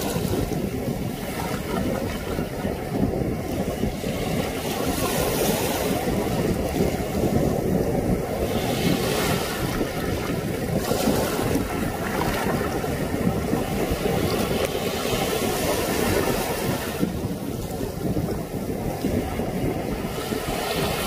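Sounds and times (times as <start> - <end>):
surf washing over sand and rocks: 0.0 - 21.0
wind rumbling on microphone: 0.0 - 21.0.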